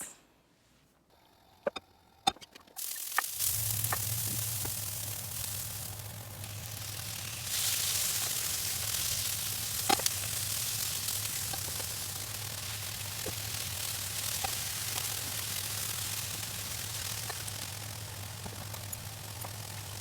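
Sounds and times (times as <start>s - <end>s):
low steady hum: 0.0s - 20.0s
food sizzling in a frying pan: 2.8s - 20.0s.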